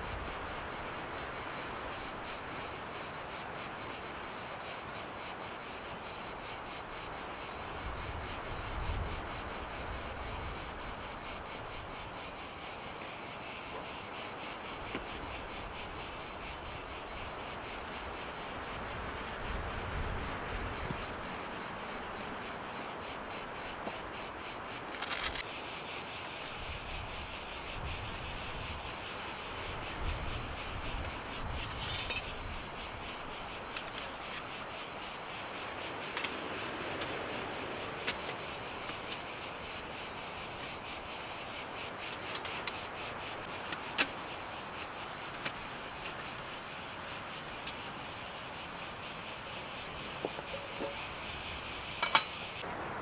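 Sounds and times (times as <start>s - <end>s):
insect chorus buzzing: 0.0s - 53.0s.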